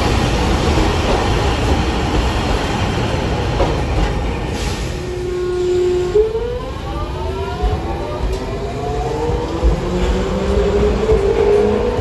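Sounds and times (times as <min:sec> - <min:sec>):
low tram hum: 0:00.0 - 0:12.0.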